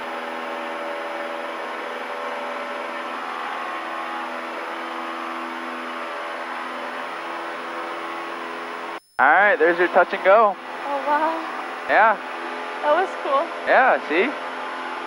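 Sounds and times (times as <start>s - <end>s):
propeller plane engine running: 0.0s - 15.0s.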